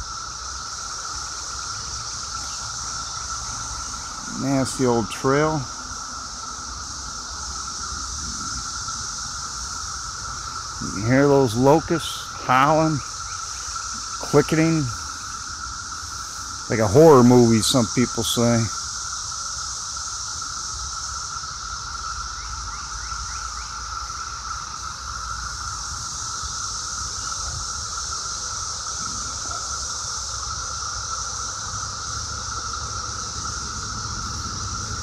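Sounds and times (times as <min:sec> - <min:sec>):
cicadas droning: 0:00.0 - 0:35.0.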